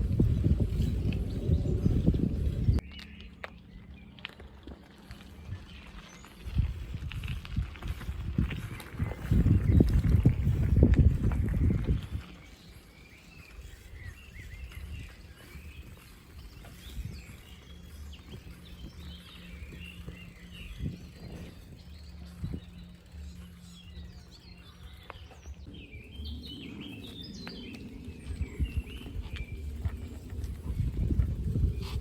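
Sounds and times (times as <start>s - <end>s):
songbirds chirping and singing: 0.0s - 32.0s
steady low rumble: 0.0s - 32.0s.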